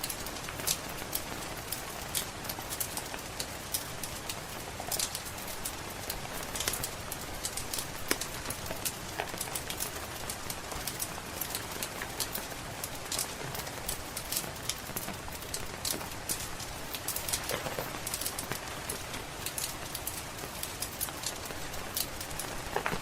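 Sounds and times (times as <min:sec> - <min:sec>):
rain hissing: 0:00.0 - 0:23.0
wood fire crackling: 0:00.0 - 0:23.0.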